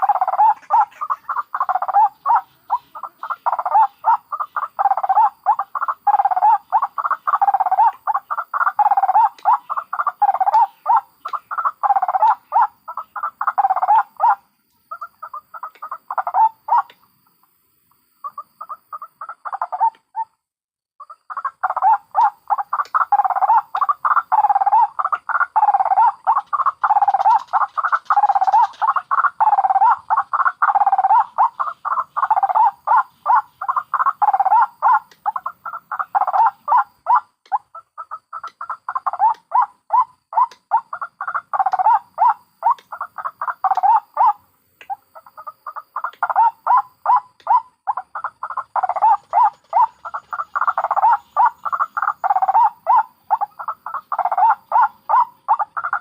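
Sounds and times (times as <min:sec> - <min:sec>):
waterhens harsh croaking calls: 0:00.0 - 0:17.0, 0:21.0 - 0:56.0.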